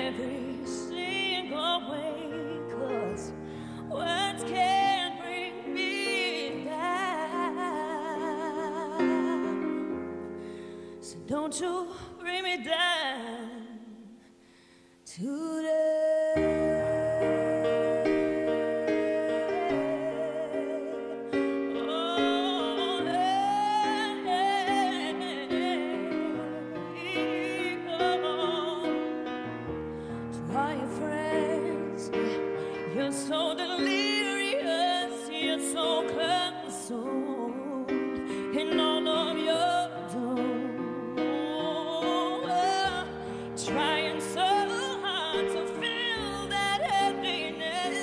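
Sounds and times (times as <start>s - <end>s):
piano chords: 0.0s - 13.3s, 15.5s - 48.0s
woman singing a slow ballad: 0.0s - 14.4s, 15.0s - 48.0s.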